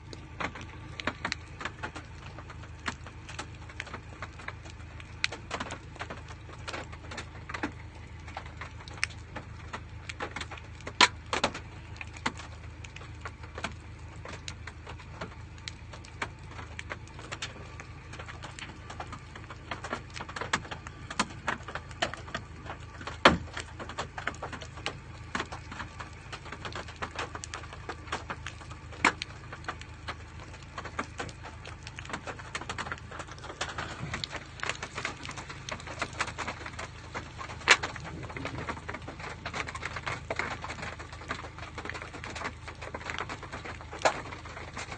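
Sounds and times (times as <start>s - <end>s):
steady low rumble: 0.0s - 44.9s
hailstones striking hard surface: 0.3s - 44.9s.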